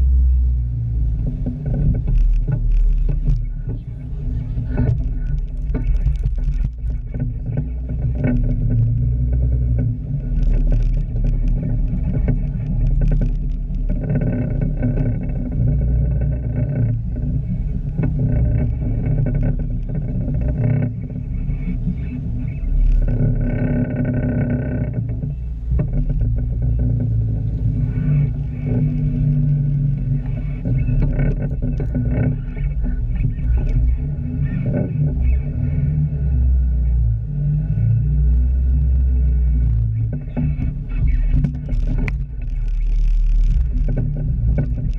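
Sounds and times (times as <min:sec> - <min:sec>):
car engine running: 0:00.0 - 0:44.9
drivetrain humming: 0:00.0 - 0:44.9
wind rumble on microphone: 0:00.0 - 0:44.9.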